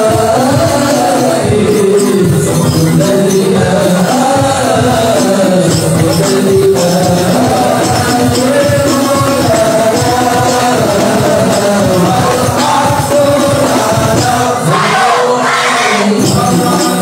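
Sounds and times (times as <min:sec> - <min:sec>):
man singing devotional song: 0:00.0 - 0:17.0
musical accompaniment: 0:00.0 - 0:17.0.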